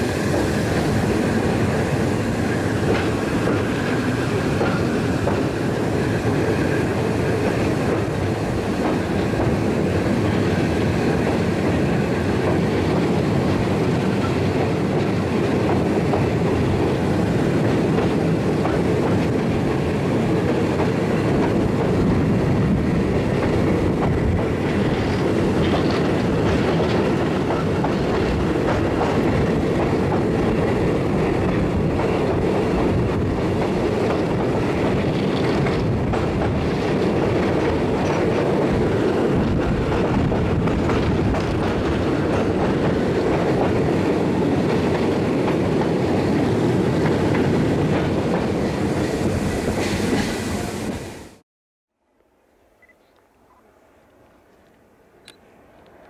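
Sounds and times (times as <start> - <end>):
train wheels rumbling on rails: 0.0 - 51.4.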